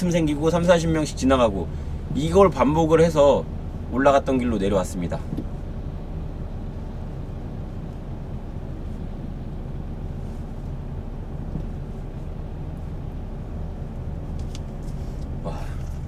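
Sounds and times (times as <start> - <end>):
engine and road rumble in car: 0.0 - 16.0.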